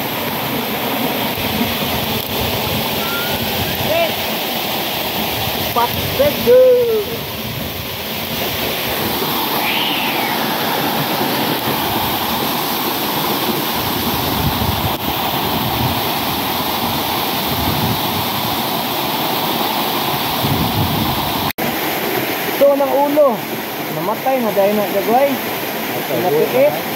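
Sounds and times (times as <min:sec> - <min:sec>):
waterfall splashing into pool: 0:00.0 - 0:26.9.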